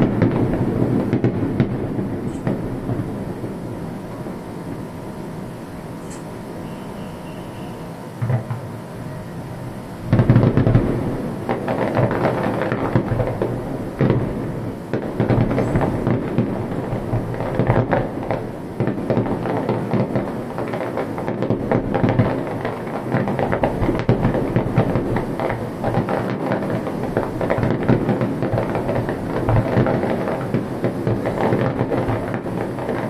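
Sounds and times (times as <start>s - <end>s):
firework bursts and crackling: 0.0s - 33.0s.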